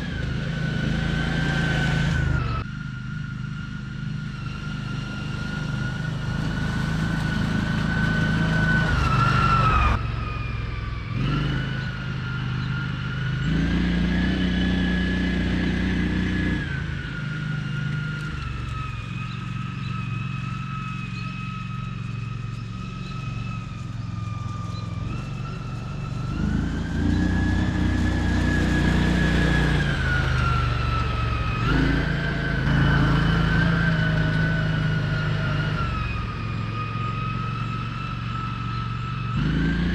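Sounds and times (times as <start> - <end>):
utility vehicle engine driving: 0.0 - 39.9.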